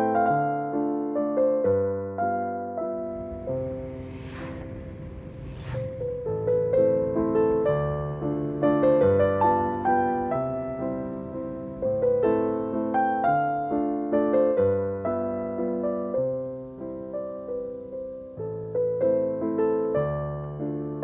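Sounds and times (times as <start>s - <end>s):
gentle piano music: 0.0s - 3.8s, 6.3s - 21.0s.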